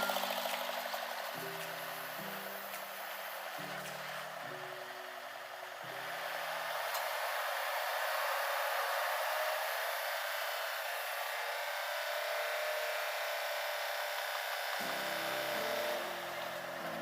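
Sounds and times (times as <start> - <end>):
background music with sustained notes: 0.0 - 17.0
steady hissing noise: 0.0 - 17.0.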